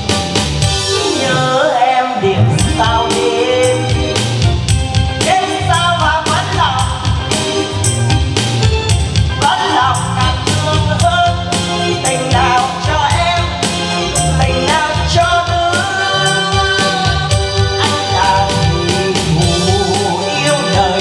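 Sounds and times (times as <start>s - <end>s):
upbeat backing music with drums: 0.0s - 1.7s, 2.3s - 21.0s
woman singing into microphone: 0.9s - 4.4s, 5.2s - 7.3s, 9.4s - 21.0s.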